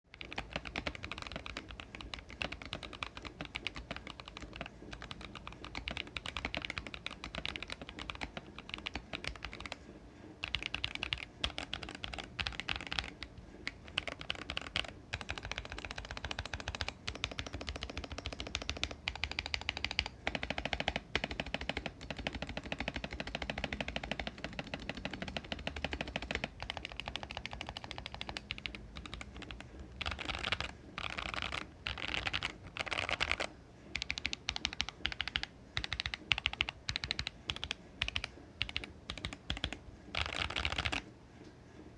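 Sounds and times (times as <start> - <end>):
mechanical keyboard typing: 0.1 - 9.8, 10.4 - 41.1.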